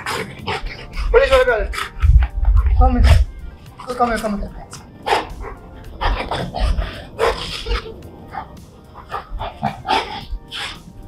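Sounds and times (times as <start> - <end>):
dog barking and grumbling: 0.0 - 11.0.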